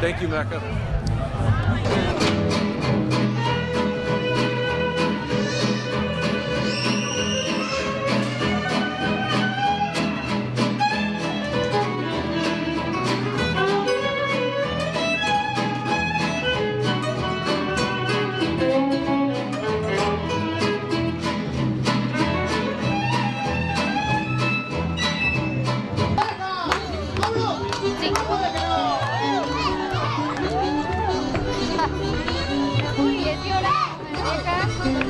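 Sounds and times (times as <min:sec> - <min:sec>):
plucked double bass: 0:00.0 - 0:35.0
violin melody: 0:00.3 - 0:26.0, 0:27.4 - 0:35.0
acoustic guitars strumming: 0:00.9 - 0:35.0.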